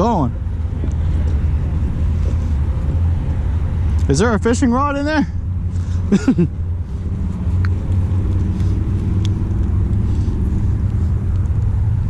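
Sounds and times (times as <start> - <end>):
faint engine hum: 0.0 - 12.0.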